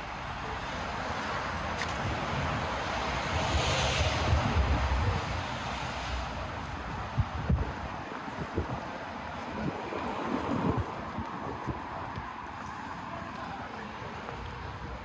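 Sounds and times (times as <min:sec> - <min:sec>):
passing vehicle engine and tyres: 0:00.1 - 0:15.0.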